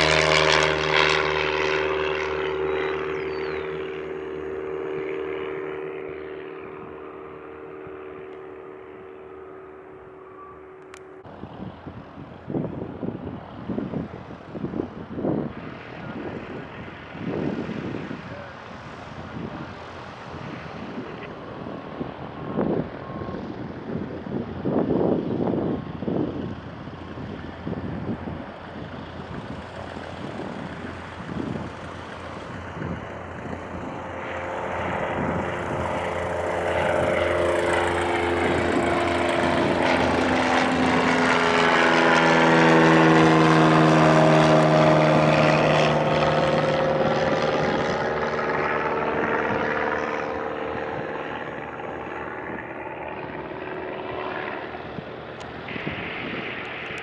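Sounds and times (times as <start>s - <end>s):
propeller airplane flying past: 0.0s - 57.0s
wind buffeting microphone: 11.2s - 57.0s.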